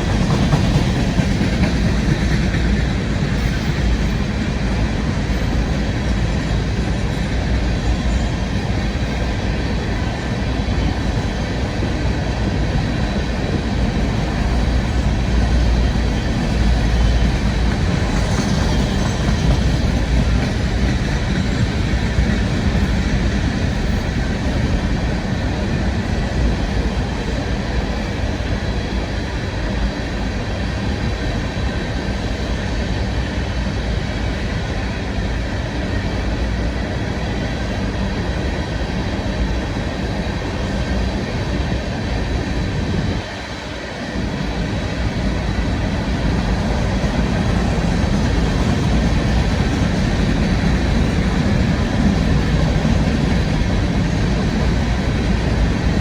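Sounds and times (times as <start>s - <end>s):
train rumbling past on rails: 0.0s - 56.0s.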